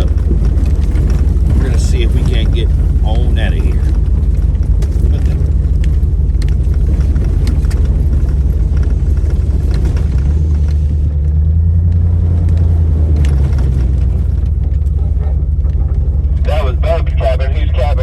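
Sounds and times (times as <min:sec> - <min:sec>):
small knocks and rattles: 0:00.0 - 0:16.4
vehicle engine and road rumble: 0:00.0 - 0:18.0.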